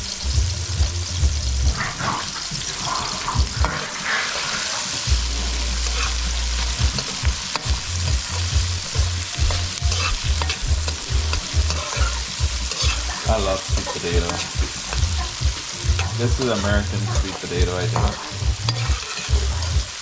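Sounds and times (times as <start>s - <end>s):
vegetables sizzling in oil: 0.0s - 20.0s
metal utensil scraping wok: 1.1s - 20.0s.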